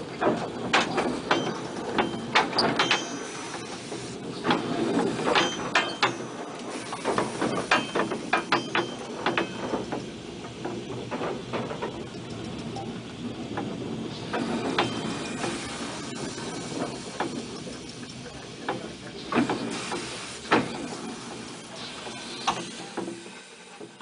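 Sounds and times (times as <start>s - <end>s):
steam locomotive running noise: 0.0s - 24.0s
metallic knocks and clanks: 0.2s - 3.7s, 4.4s - 21.3s.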